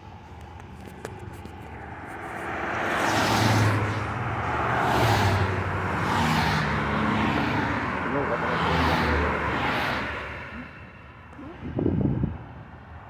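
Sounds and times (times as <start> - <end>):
vehicles passing close by: 0.0 - 13.0.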